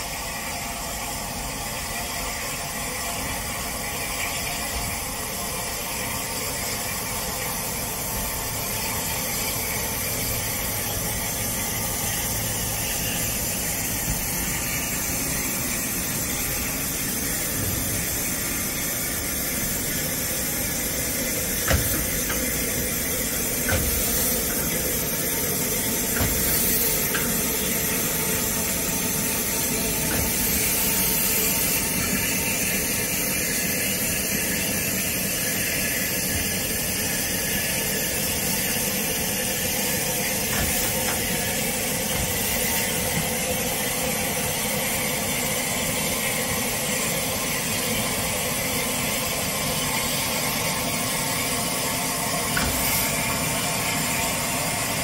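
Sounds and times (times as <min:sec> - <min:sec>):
steam train rushing hiss: 0:00.0 - 0:55.0.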